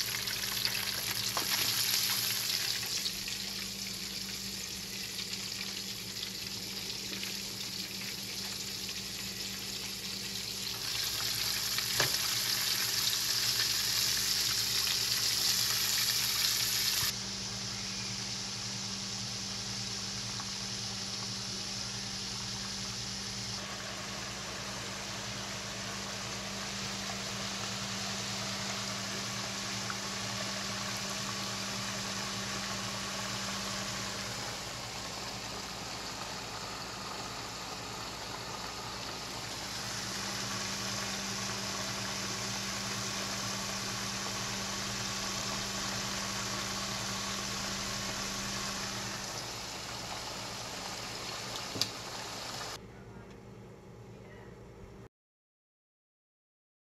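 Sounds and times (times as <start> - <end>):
chicken frying in oil: 0.0 - 52.8
low steady hum: 0.0 - 55.1.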